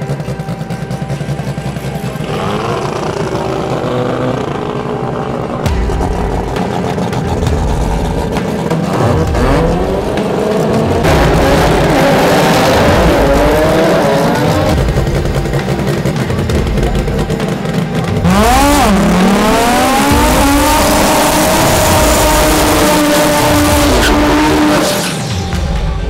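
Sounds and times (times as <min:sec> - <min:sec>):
race car engines revving loudly: 0:00.0 - 0:25.2.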